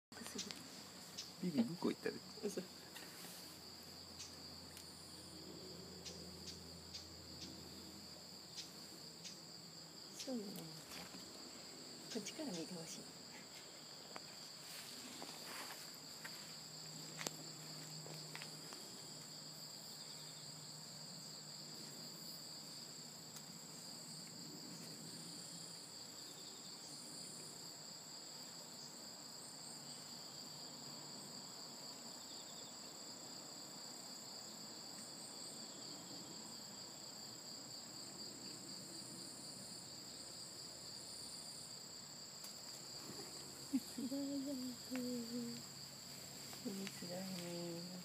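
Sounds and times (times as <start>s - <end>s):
high-pitched insect chorus: 0.2s - 48.0s.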